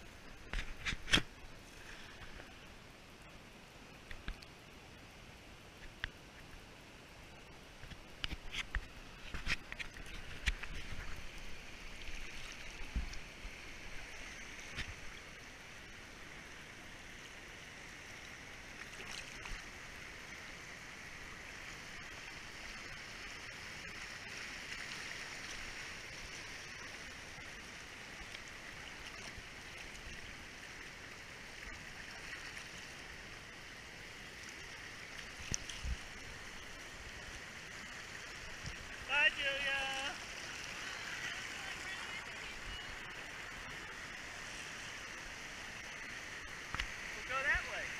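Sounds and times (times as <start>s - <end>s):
creek rushing over rocks: 7.5s - 47.9s.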